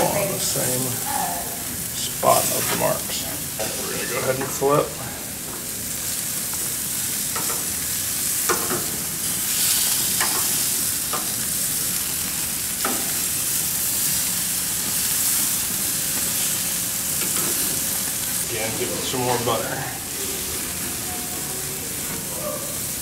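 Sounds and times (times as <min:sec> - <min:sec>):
fish sizzling on a grill: 0:00.0 - 0:23.0.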